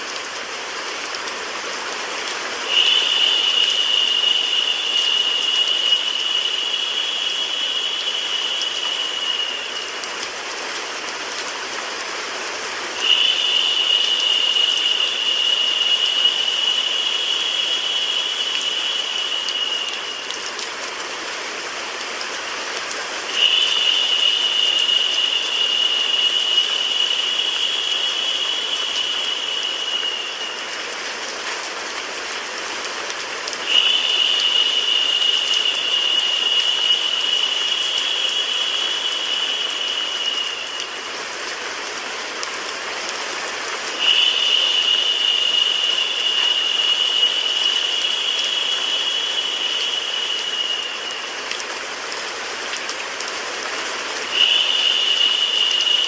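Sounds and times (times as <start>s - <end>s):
rain: 0.0s - 56.0s
white noise hiss: 0.0s - 56.0s.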